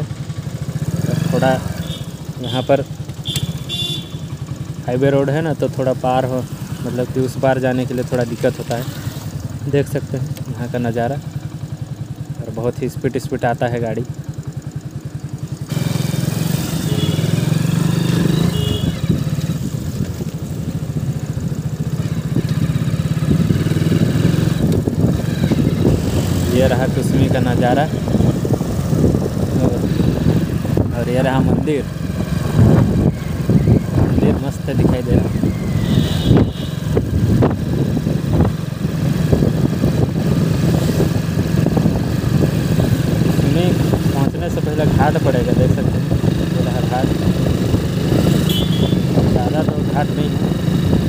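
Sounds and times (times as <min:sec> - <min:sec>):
motorcycle engine idling: 0:00.0 - 0:51.0.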